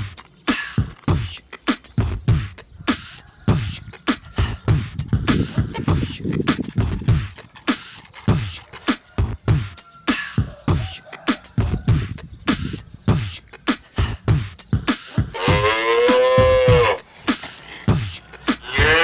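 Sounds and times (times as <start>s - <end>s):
drum beat with kick and snare: 0.0s - 19.0s.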